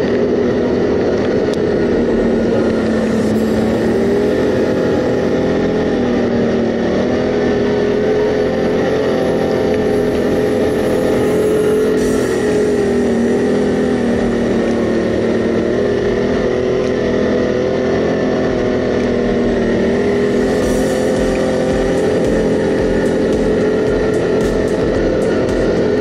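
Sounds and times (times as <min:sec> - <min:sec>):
quad bike engine running: 0:00.0 - 0:26.0
rumbling track noise: 0:00.0 - 0:26.0.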